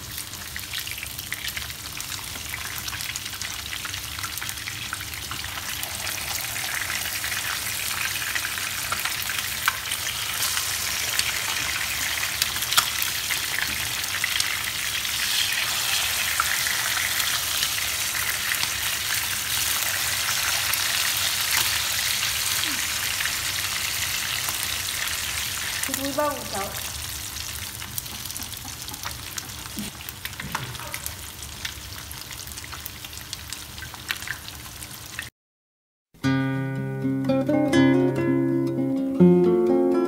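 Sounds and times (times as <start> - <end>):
fish sizzling in hot oil: 0.0 - 35.3.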